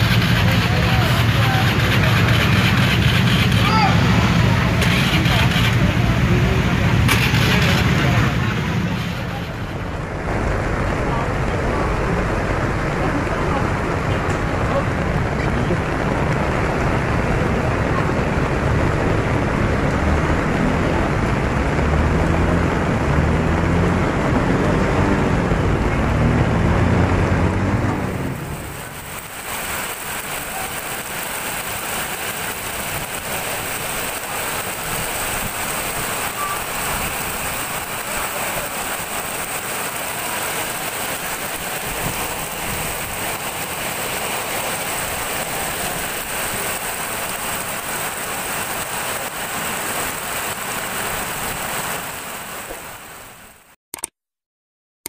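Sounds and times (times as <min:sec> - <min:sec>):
motorbike engines running: 0:00.0 - 0:53.1
heavy rain pouring: 0:00.0 - 0:53.8.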